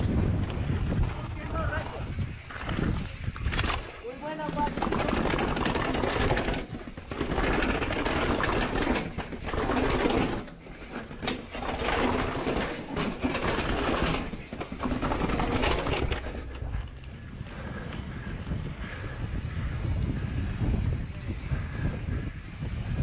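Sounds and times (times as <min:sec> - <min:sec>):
mountain bike clattering and rattling: 0:00.0 - 0:23.0.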